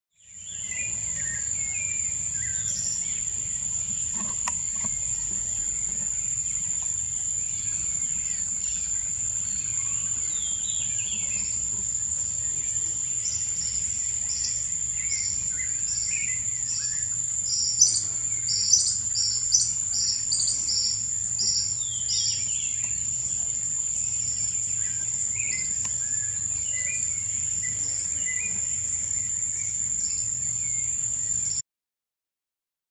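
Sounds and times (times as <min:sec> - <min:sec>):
birds chirping: 0:00.2 - 0:31.6
high-pitched insect drone: 0:00.4 - 0:31.6.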